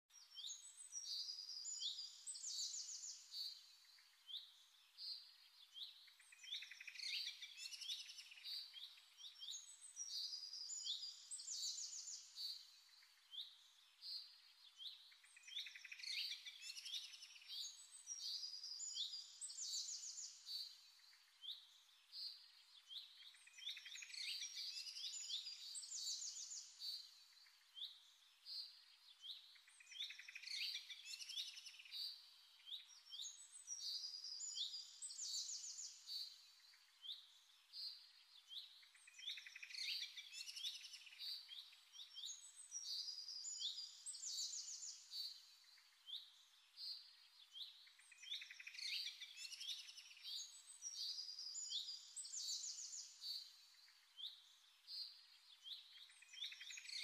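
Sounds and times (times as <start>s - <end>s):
small birds chirping and trilling: 0.1s - 57.0s.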